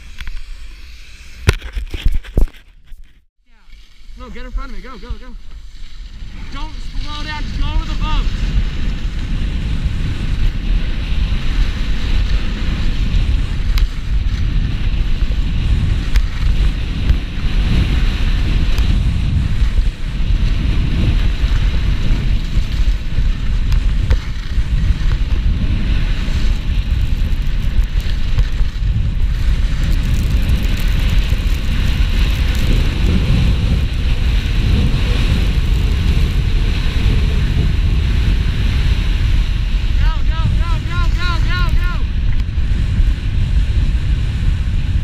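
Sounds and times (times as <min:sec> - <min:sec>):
skis scraping over packed snow: 0:03.6 - 0:45.0
wind buffeting microphone: 0:04.2 - 0:45.0.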